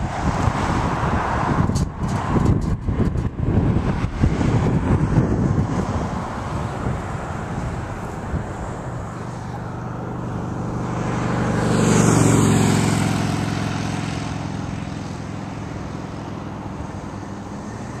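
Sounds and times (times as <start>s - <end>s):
airliner passing overhead: 0.0s - 18.0s.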